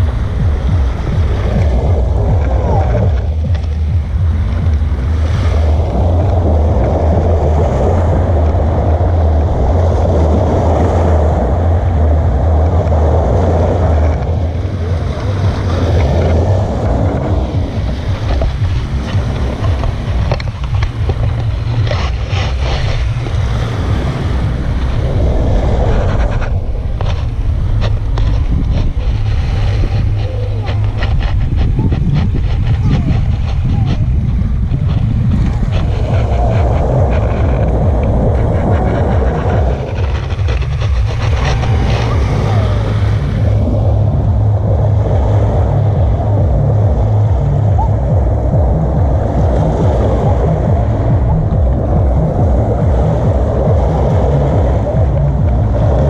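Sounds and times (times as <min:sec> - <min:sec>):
wind rumble on microphone: 0:00.0 - 0:56.0.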